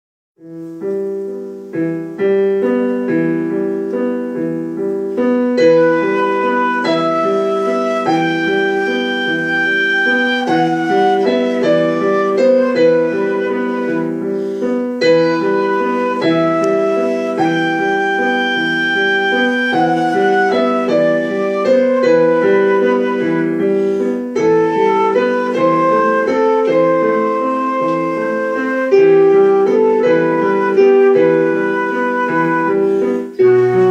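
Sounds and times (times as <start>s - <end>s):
piano chords: 0.4s - 33.9s
flute playing slow melody: 5.6s - 33.9s.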